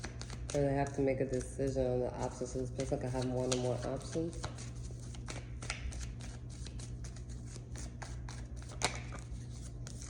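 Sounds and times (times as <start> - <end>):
cards being shuffled: 0.0 - 1.5, 2.6 - 10.0.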